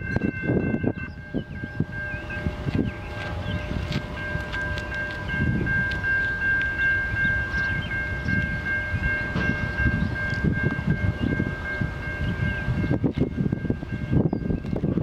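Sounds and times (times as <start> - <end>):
locomotive rumble: 0.0 - 15.0
railroad crossing bell ringing: 0.0 - 15.0.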